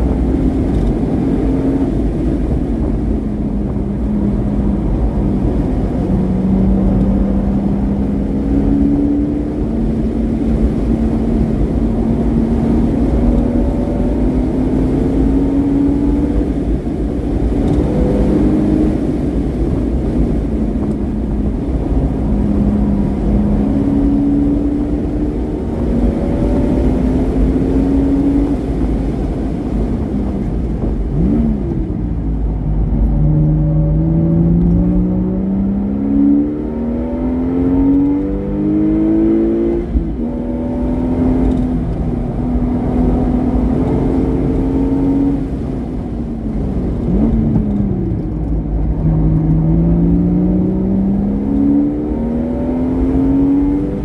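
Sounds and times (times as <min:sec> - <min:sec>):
low exhaust rumble: 0:00.0 - 0:37.0, 0:39.8 - 0:52.3
car engine accelerating: 0:00.0 - 0:54.0.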